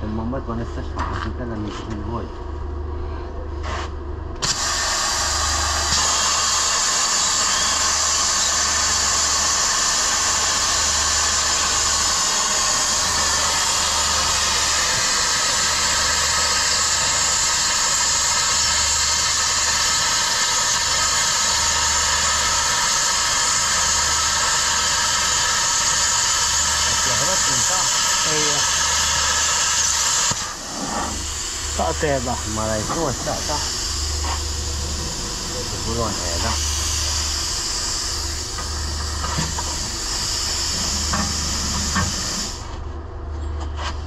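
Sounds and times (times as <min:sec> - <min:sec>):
pneumatic cut-off tool cutting steel: 0:03.6 - 0:42.8.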